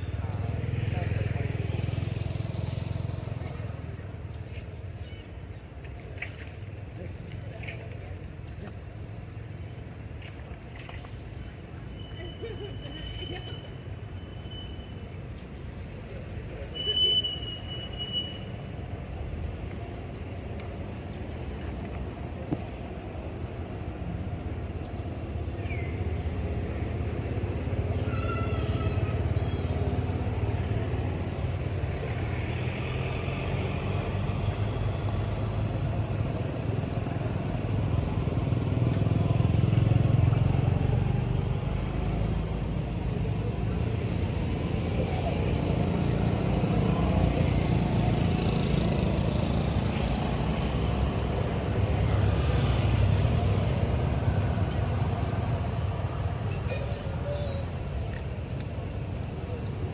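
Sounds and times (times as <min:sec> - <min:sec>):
vehicle engine rumble: 0:00.0 - 0:59.9.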